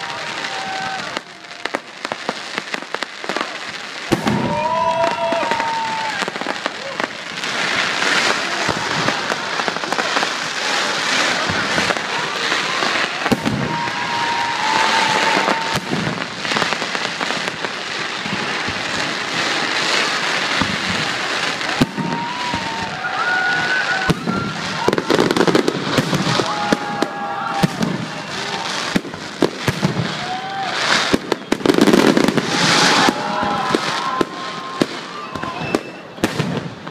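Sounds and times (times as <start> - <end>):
fireworks bangs: 0.0 - 36.9
fireworks crackling: 0.0 - 36.9.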